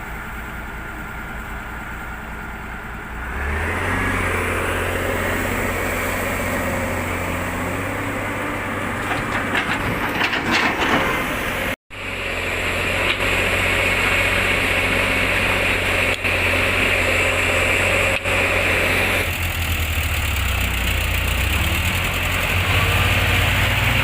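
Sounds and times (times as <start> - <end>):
diesel engine running at low revs: 0.0 - 24.0.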